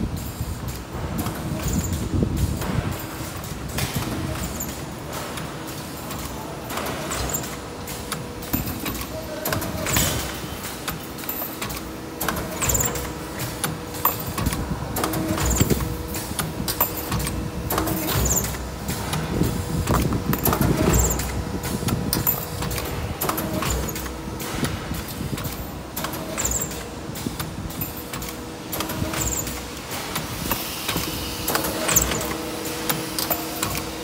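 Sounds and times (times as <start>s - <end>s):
machine clacking and knocking: 0.0s - 34.0s.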